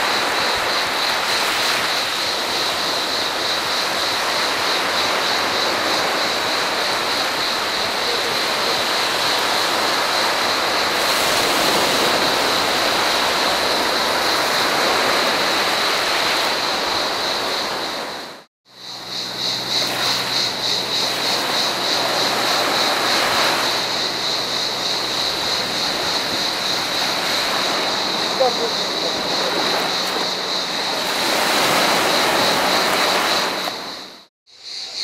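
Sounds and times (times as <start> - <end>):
surf washing over rocks and sand: 0.0 - 18.5, 19.7 - 34.3
cicadas buzzing: 0.0 - 35.0.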